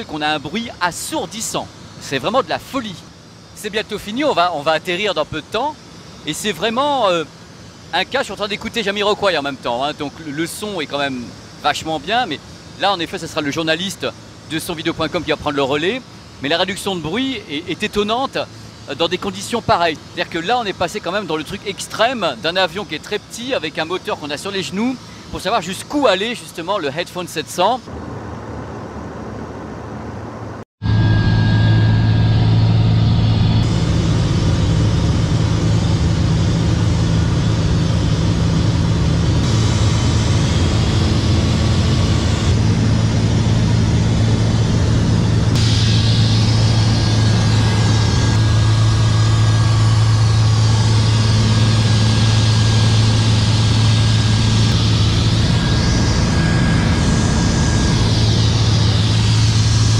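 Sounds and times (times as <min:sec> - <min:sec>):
small airplane cabin drone: 0:00.0 - 0:59.9.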